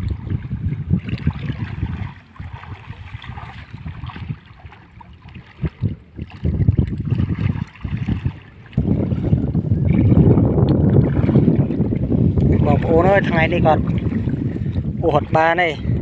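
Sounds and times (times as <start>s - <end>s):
water splashing around legs: 0.0s - 15.7s
wind buffeting microphone: 0.0s - 16.0s.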